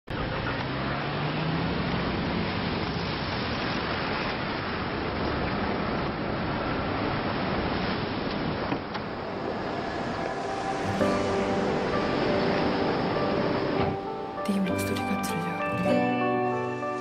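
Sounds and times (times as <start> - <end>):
car engine hum passing: 0.1 - 14.5
sea surf breaking on sand: 0.7 - 14.4.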